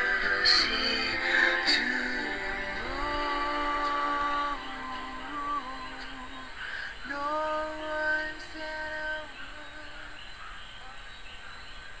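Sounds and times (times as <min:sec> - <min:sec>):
person singing a long note: 0:00.0 - 0:10.4
quiet backing music: 0:00.0 - 0:11.6.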